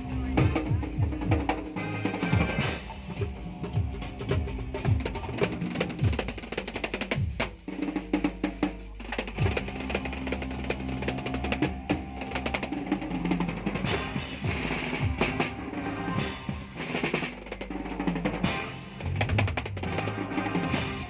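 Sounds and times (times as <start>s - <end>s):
bass drum: 0.0s - 21.0s
snare drum strokes: 0.0s - 21.0s.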